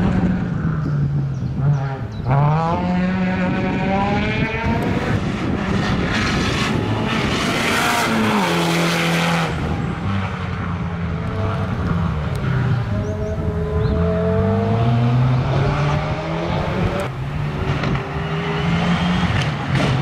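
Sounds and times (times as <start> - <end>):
rally car passing at speed: 1.6 - 20.0.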